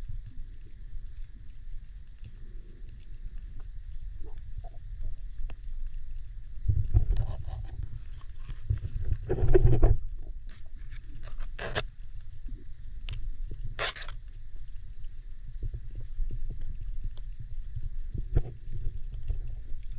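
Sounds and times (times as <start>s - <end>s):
underwater low rumble: 0.0s - 19.9s.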